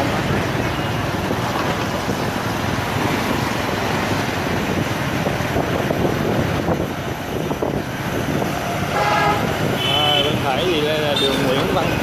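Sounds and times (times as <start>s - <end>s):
motorbike engines: 0.0s - 12.0s
wind rushing over microphone: 0.1s - 10.9s.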